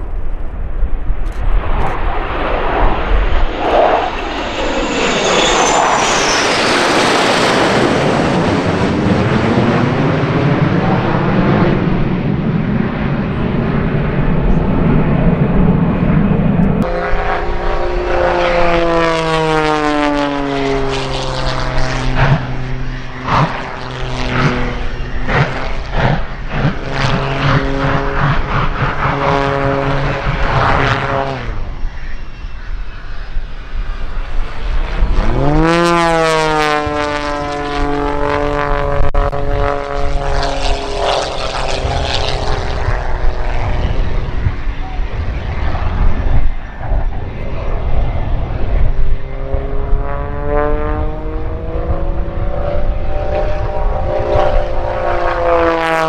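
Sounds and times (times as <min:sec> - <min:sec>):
jet formation rumble: 0:00.0 - 0:56.0
propeller plane engine: 0:00.0 - 0:56.0.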